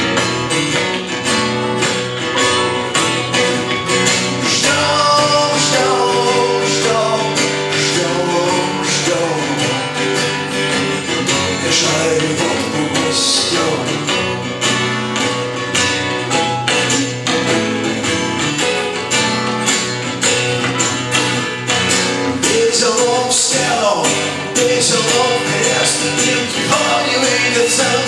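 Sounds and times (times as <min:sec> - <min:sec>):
melodic lead line: 0:00.0 - 0:22.9
strummed acoustic guitar: 0:00.0 - 0:28.0.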